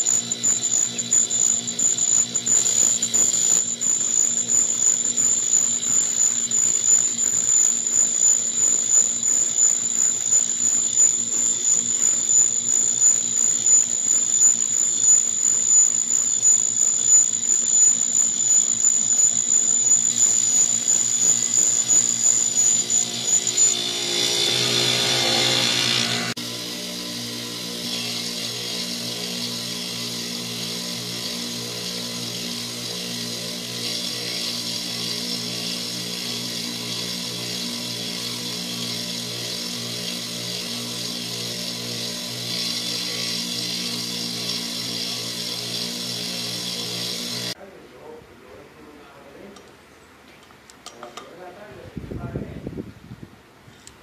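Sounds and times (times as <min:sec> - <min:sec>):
grinder high whine: 0:00.0 - 0:47.6
grinding wheel on metal: 0:00.0 - 0:47.6.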